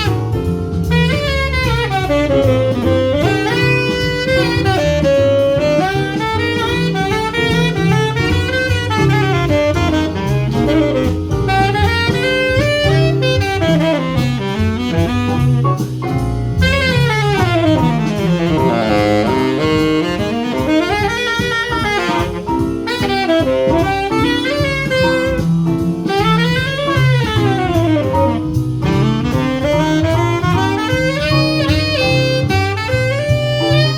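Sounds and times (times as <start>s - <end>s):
jazz saxophone improvising: 0.0s - 33.9s
walking bass line: 0.0s - 33.9s.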